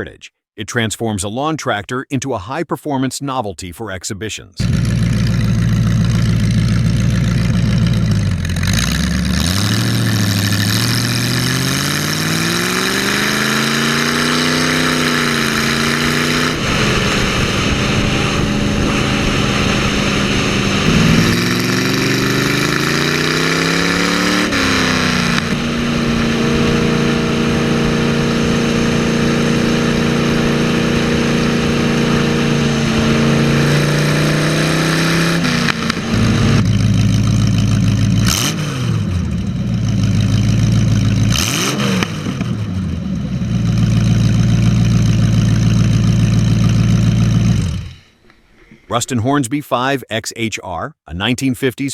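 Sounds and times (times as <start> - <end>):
engine revving and fast idle: 4.6 - 48.4.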